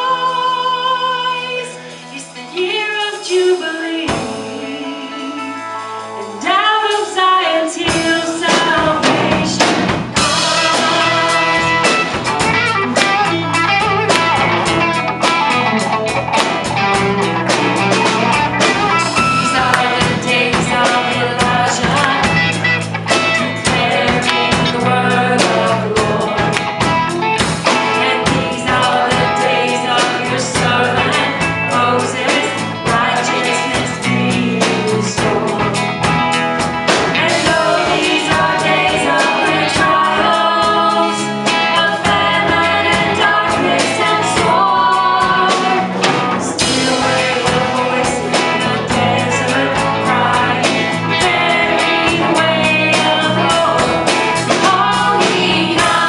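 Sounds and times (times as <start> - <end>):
people singing: 0.0 - 56.0
worship band playing: 0.0 - 56.0
drum strokes: 7.9 - 56.0.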